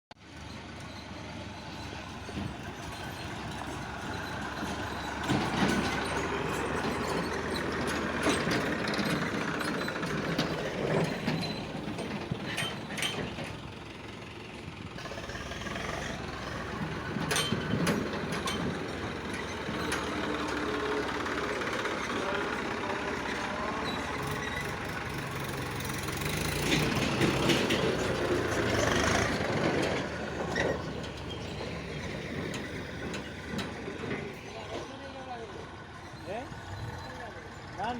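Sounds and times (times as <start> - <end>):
diesel engine running under load: 0.1 - 37.9.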